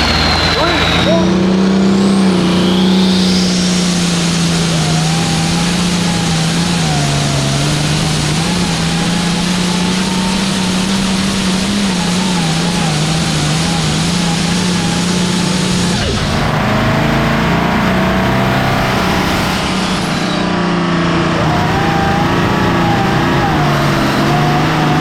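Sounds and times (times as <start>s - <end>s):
tractor engine at high revs: 0.0s - 25.0s.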